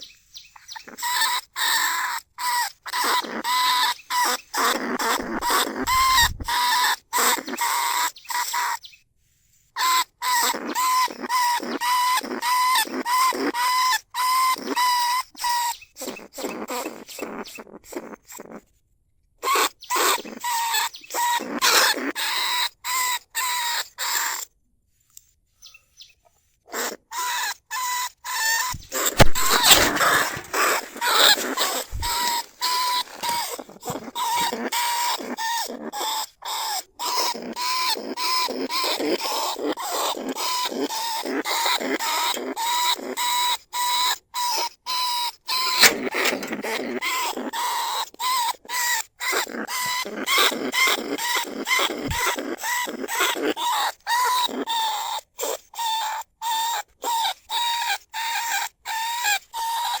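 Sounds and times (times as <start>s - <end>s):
rats squeaking and chattering: 0.0s - 9.0s, 9.8s - 18.8s, 19.4s - 24.5s, 25.6s - 60.0s.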